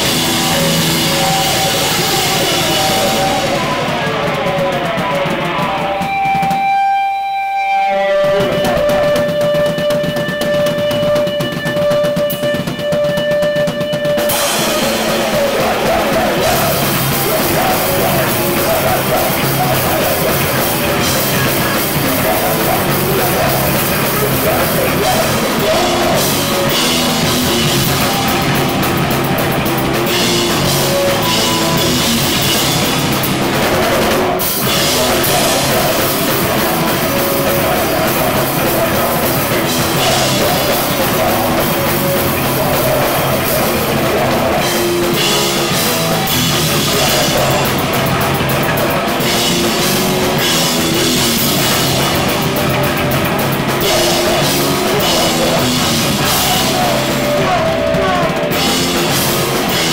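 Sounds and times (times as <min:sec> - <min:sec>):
heavy punk rock music: 0:00.0 - 0:59.9.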